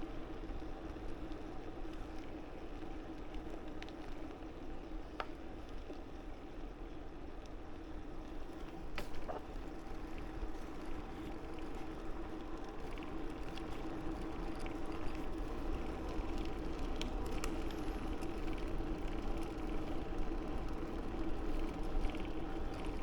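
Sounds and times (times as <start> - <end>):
bicycle tyres humming on pavement: 0.0 - 23.0.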